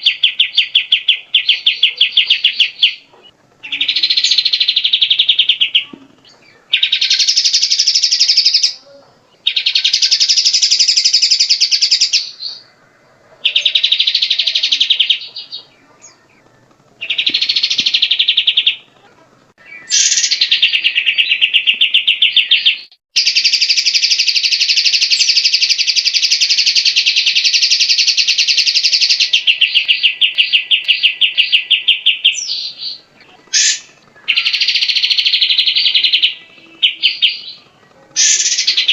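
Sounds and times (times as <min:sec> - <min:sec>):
bird singing trilled phrases: 0:00.0 - 0:38.9.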